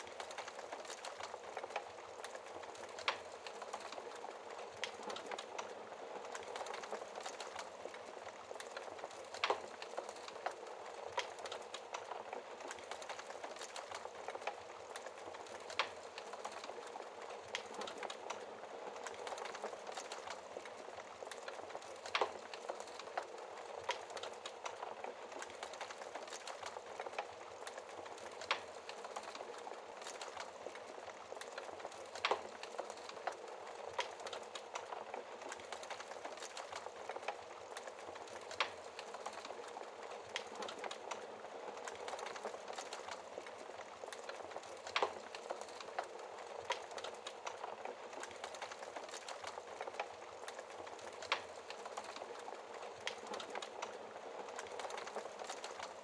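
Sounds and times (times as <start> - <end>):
fire snaps and pops: 0.0 - 56.0.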